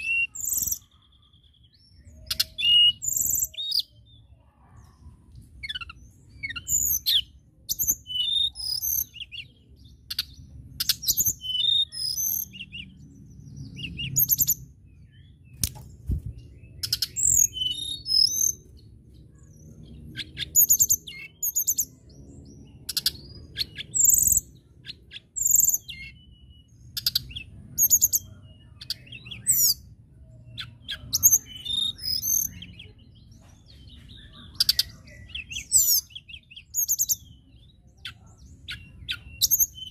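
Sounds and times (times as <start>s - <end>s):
bird singing whistled phrases and trills: 0.0s - 39.9s.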